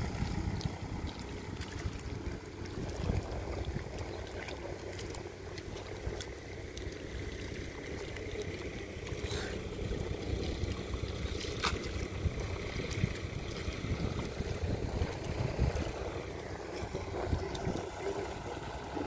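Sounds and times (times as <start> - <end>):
water and mud sloshing: 0.0 - 19.0
wind rumble on microphone: 0.0 - 19.0.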